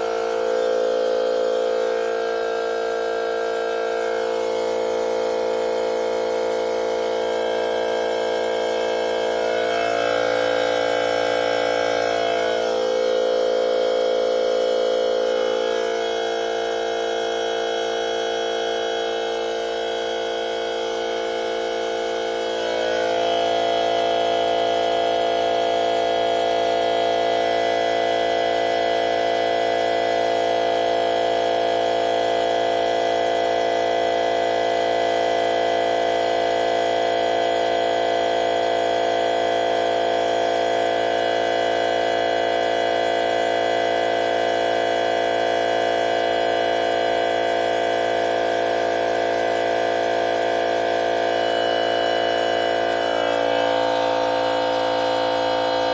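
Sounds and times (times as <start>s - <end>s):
air compressor motor humming: 0.0s - 55.9s.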